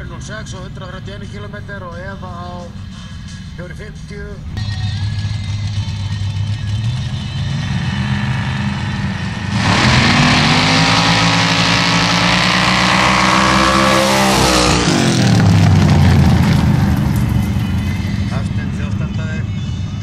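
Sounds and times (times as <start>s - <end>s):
drag car engines revving: 0.0s - 20.0s.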